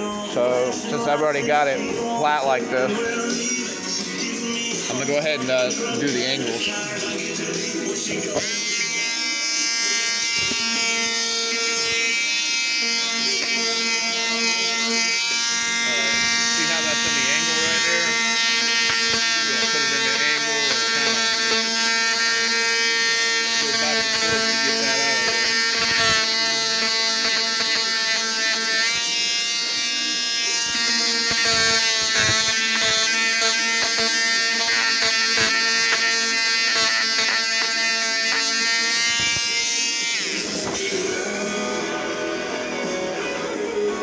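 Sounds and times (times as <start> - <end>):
electric sander whining: 0.0 - 44.0.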